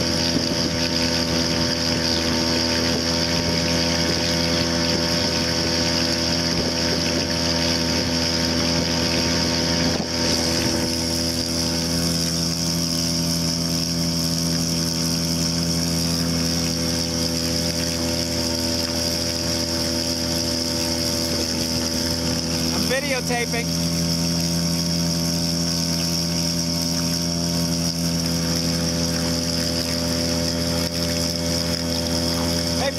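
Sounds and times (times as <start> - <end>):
outboard motor running: 0.0 - 32.9.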